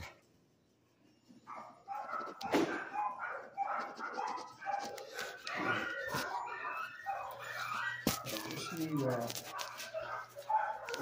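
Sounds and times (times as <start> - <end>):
dog barking and whining: 1.4 - 11.0.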